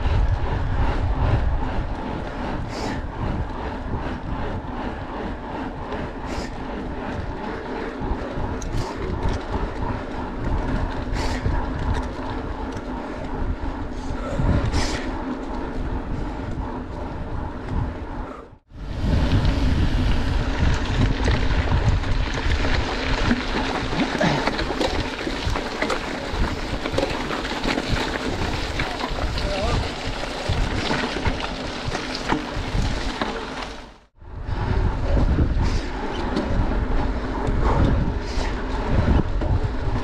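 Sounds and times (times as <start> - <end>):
tyres on gravel road: 0.0 - 40.0
tyres rolling on asphalt: 0.0 - 40.0.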